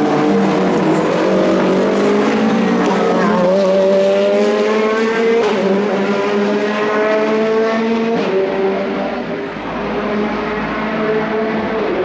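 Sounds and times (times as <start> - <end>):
sports car engine revving high: 0.0 - 12.0.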